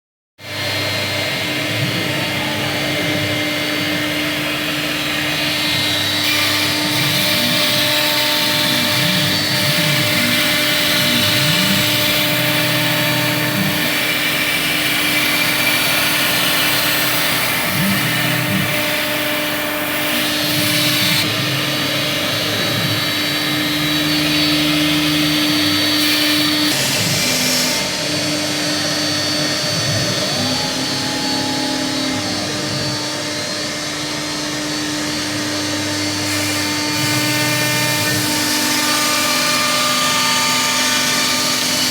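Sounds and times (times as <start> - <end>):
router spindle whine: 0.4 - 41.9
motors rising and falling: 0.5 - 41.9.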